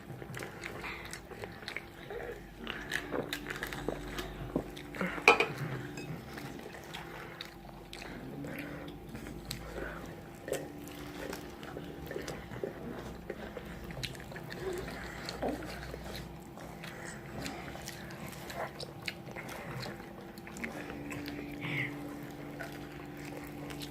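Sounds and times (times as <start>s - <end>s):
crunchy chewing of fried food: 0.0s - 23.9s.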